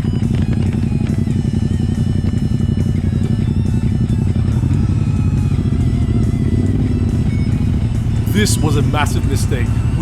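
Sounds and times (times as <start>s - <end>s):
background music: 0.0s - 10.0s
motorcycle engine rumbling: 0.0s - 10.0s.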